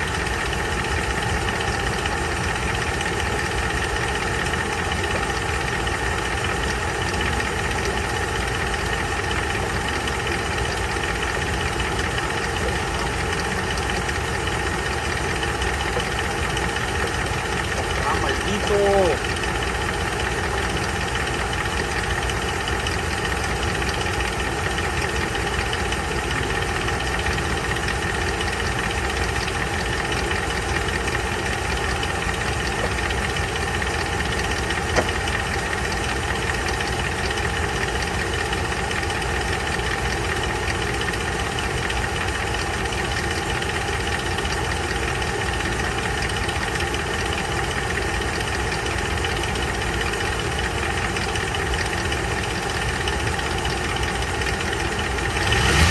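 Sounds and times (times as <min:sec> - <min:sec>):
engine idling with rapid knocking: 0:00.0 - 0:55.9.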